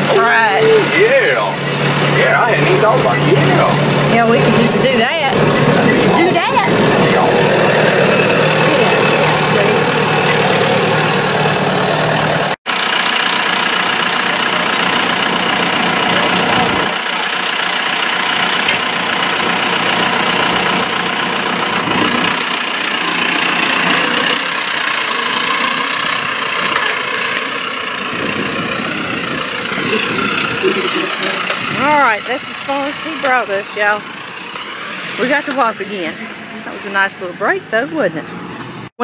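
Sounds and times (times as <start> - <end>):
farm vehicle engine running: 0.0 - 39.0.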